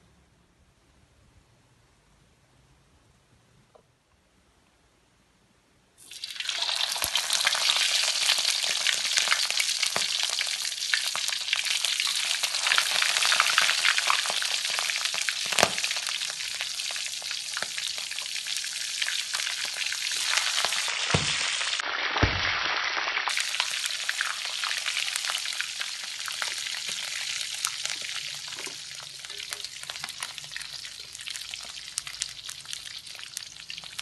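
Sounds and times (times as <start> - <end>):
deep-frying oil sizzling and popping: 6.0 - 34.0.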